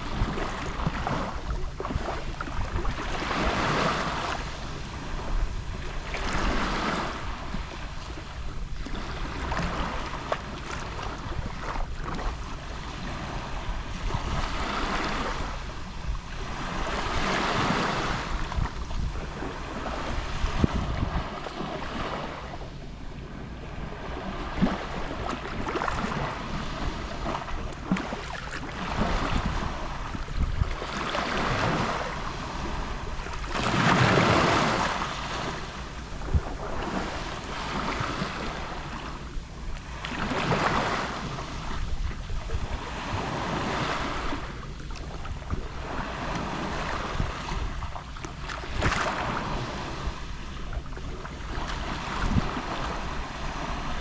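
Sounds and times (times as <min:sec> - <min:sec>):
waves lapping on shore: 0:00.0 - 0:54.0
wind rumbling on microphone: 0:00.0 - 0:54.0.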